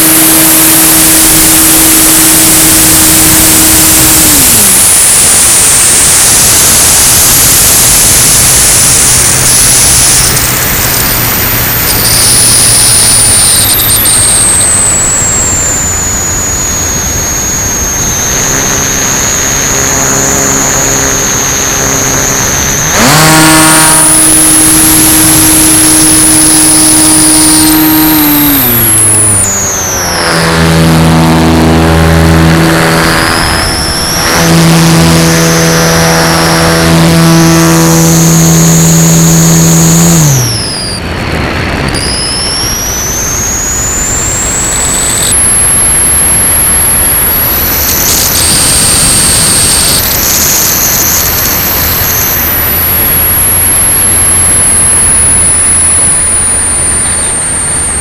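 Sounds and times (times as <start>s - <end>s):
airplane engine and propeller: 0.0s - 58.0s
high whine: 0.0s - 58.0s
rushing wind noise: 0.0s - 58.0s.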